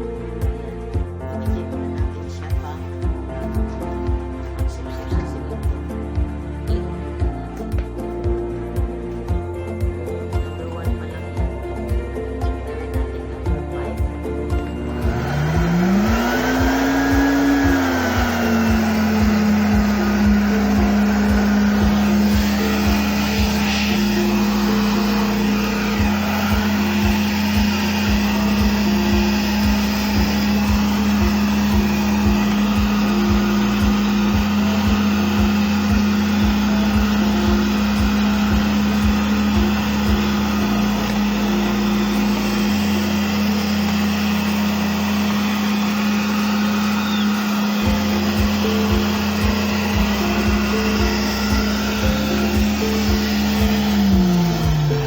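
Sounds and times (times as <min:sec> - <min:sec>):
background music with a beat: 0:00.0 - 0:55.0
vacuum cleaner motor hum: 0:00.0 - 0:55.0.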